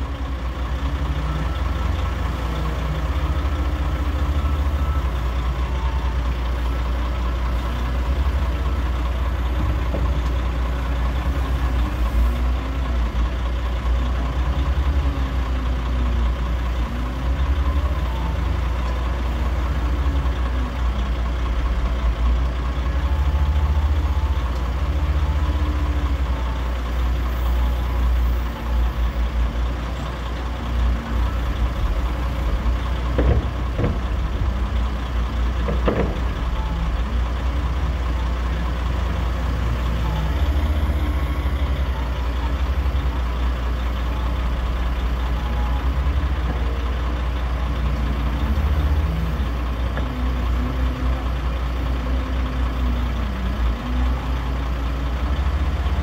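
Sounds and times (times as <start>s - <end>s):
diesel engines rumbling: 0.0s - 56.0s.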